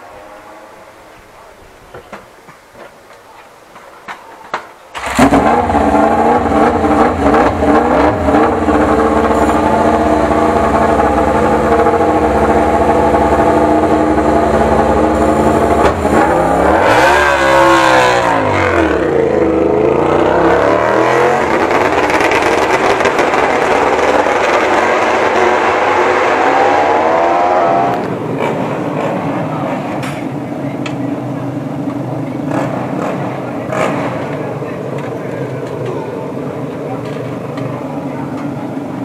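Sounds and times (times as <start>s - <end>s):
motorcycle engine idling and revving: 5.0s - 39.0s.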